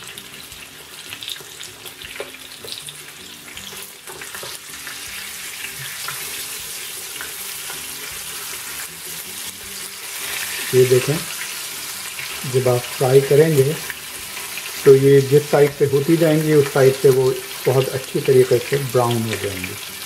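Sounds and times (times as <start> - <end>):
meat sizzling in oil: 0.0 - 20.0.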